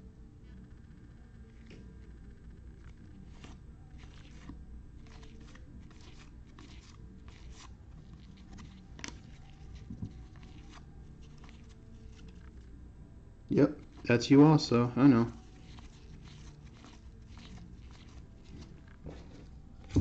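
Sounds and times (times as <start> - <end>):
trading cards rustling and crinkling: 1.4 - 12.8, 13.8 - 20.0.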